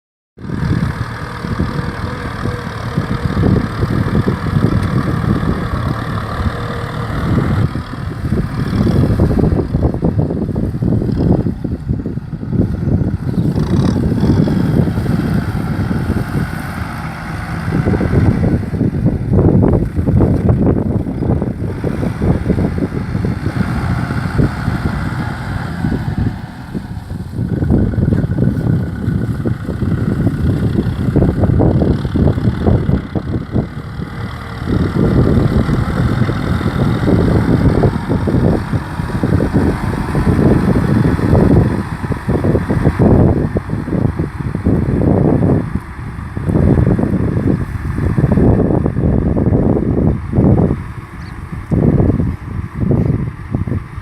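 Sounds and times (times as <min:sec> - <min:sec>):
tractor diesel engine running: 0:00.4 - 0:54.0.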